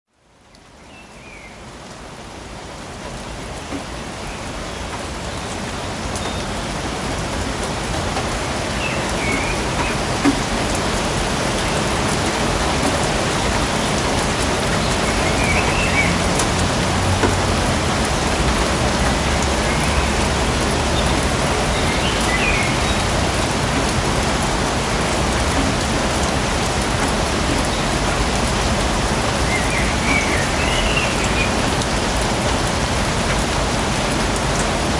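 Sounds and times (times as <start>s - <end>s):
rain falling on foliage: 0.1s - 34.9s.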